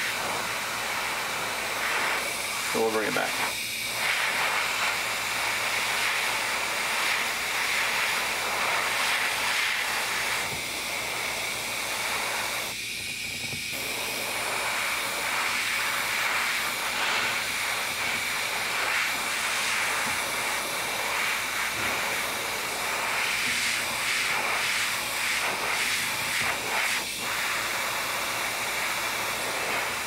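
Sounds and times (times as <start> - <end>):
airbrush spraying hiss: 0.0 - 30.0.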